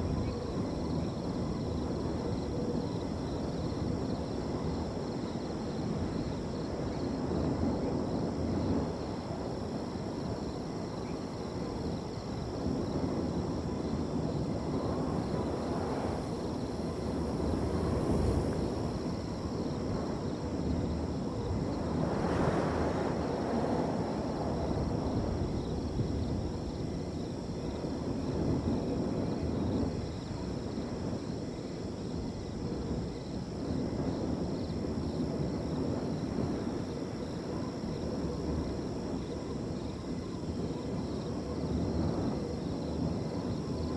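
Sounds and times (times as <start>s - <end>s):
crickets trilling: 0.0s - 43.9s
wind gusts: 0.0s - 43.9s.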